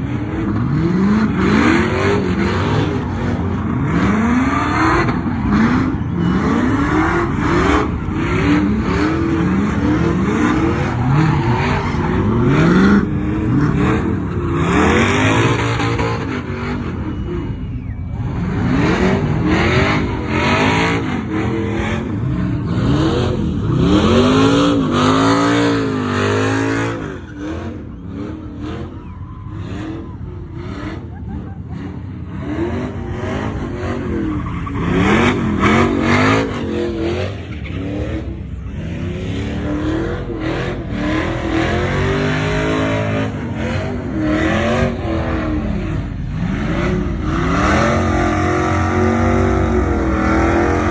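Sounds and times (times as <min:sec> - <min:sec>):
truck engines revving: 0:00.0 - 0:50.9.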